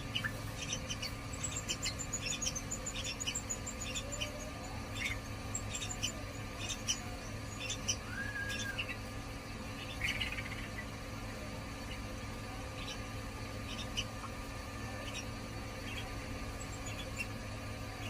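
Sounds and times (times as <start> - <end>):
birds chirping squeakily: 0.0 - 18.0.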